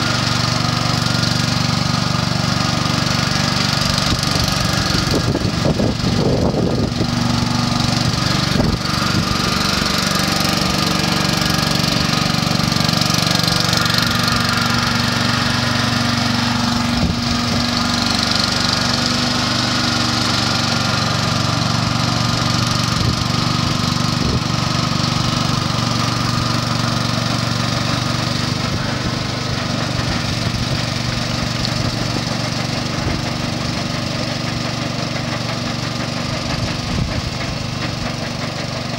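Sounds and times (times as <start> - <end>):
paddle wheels churning water: 0.0 - 38.9
small engine running: 0.0 - 38.9.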